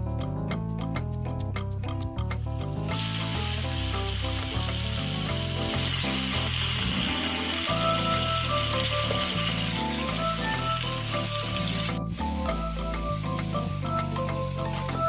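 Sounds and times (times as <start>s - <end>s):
background music: 0.0s - 15.0s
food sizzling in hot oil: 2.2s - 15.0s.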